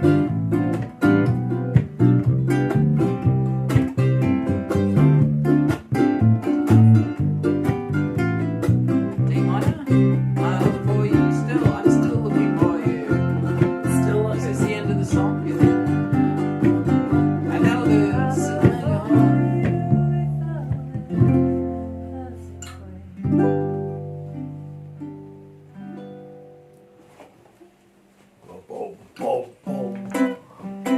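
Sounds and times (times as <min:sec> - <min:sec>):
guitar playing bossa nova: 0:00.0 - 0:27.8, 0:29.6 - 0:30.9.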